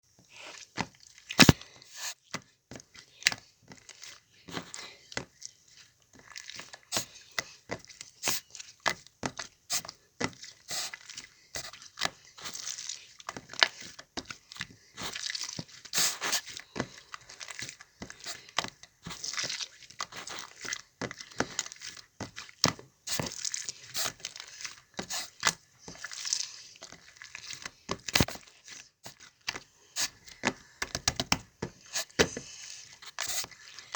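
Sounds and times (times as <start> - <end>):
slime squishing by hand: 0.3 - 33.9.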